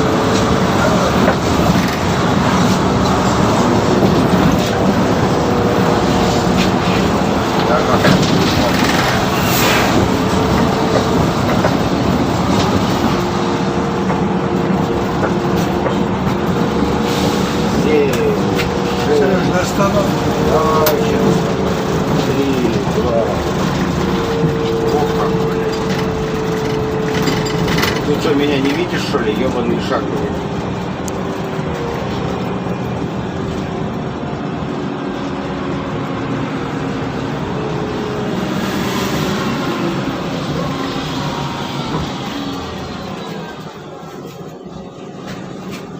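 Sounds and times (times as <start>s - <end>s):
bus engine and road noise: 0.0s - 45.9s.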